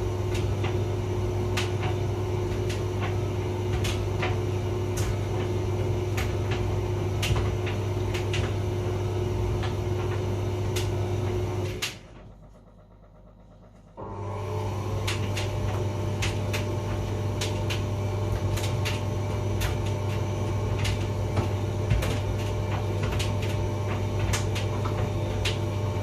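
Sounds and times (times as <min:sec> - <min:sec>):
tumble dryer humming: 0:00.0 - 0:26.0.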